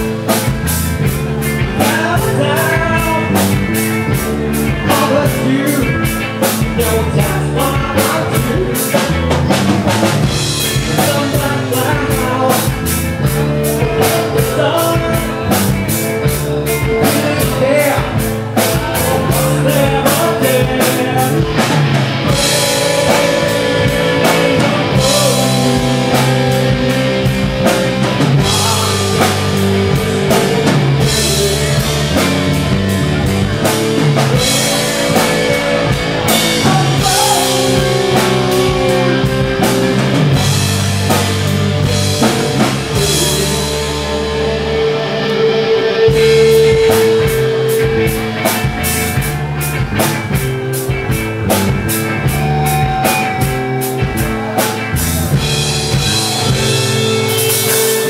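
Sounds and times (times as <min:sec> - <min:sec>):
bass guitar notes: 0:00.0 - 0:58.0
sustained guitar chords: 0:00.0 - 0:58.0.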